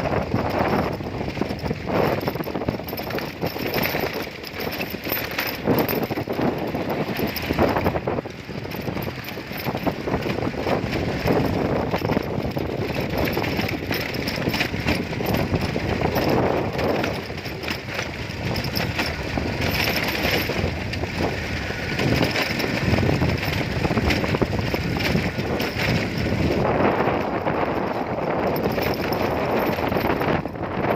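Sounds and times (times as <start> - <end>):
moving bike noise: 0.0 - 30.9
wind buffeting microphone: 0.0 - 30.9.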